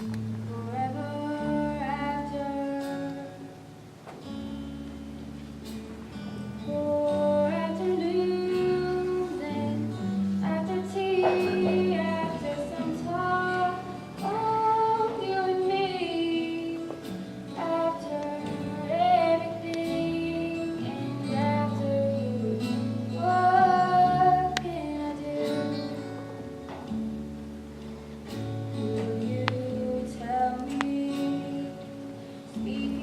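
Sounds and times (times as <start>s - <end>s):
person singing: 0.0s - 3.7s, 6.6s - 26.4s, 28.8s - 33.0s
instrumental accompaniment: 0.0s - 33.0s.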